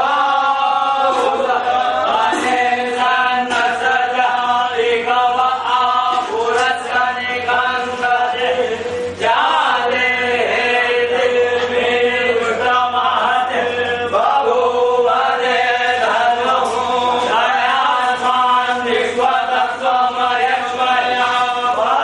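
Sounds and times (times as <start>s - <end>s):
voices chanting a mantra: 0.0s - 22.0s.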